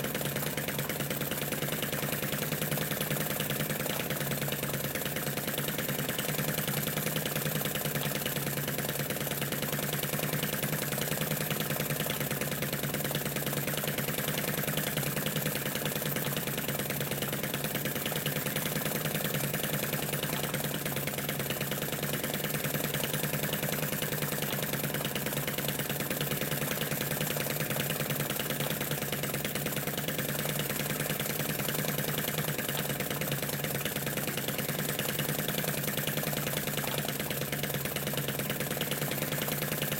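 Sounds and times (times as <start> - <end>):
model engine running steadily: 0.0 - 39.9.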